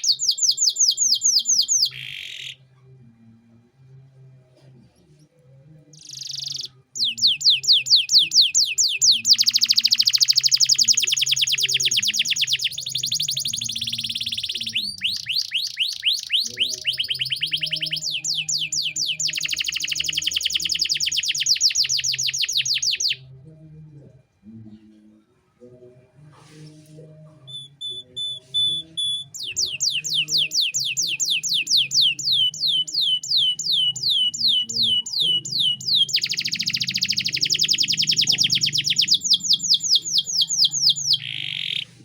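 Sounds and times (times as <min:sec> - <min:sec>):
canary singing trills: 0:00.0 - 0:02.6, 0:05.9 - 0:23.2, 0:27.4 - 0:42.0.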